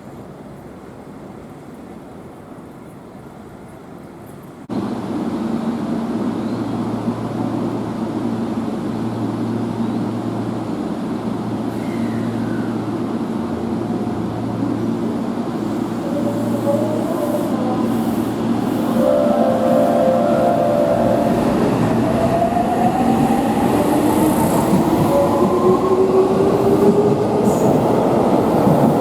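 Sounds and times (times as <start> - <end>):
electric train rumbling: 0.1 - 29.0.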